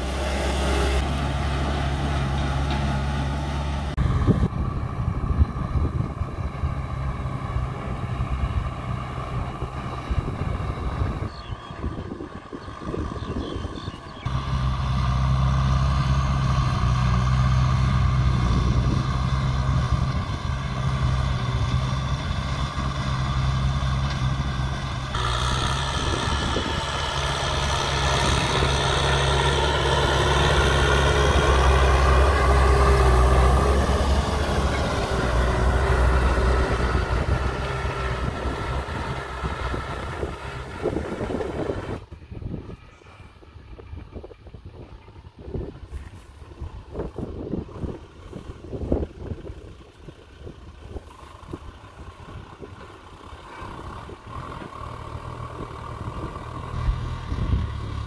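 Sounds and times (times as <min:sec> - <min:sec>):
tractor engine humming under load: 0:00.0 - 0:58.0.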